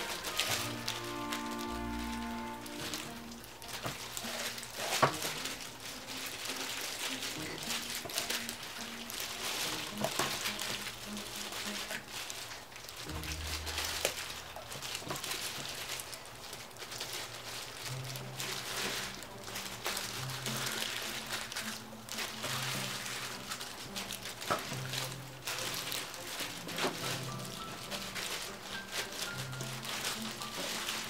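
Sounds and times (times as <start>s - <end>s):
soft background music: 0.0s - 31.0s
wet crackling of chicken skin: 0.0s - 31.0s.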